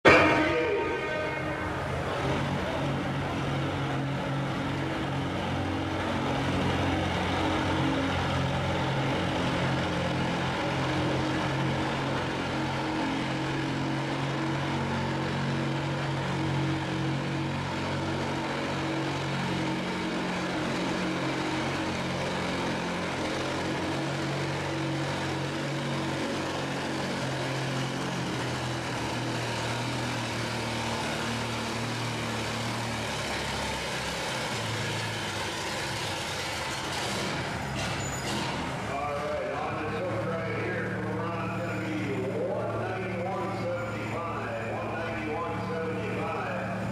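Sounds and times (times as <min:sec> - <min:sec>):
tractor engine under heavy load: 0:00.0 - 0:46.9.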